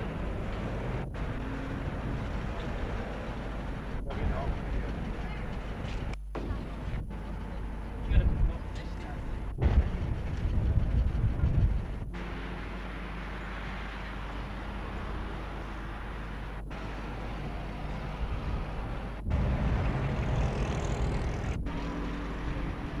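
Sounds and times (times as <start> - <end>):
low hum: 0.0 - 23.0
vehicle traffic rumble: 0.0 - 23.0.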